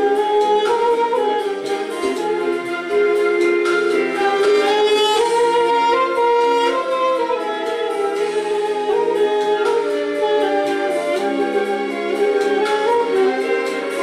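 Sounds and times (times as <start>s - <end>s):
reedy wind instrument melody: 0.0s - 14.0s.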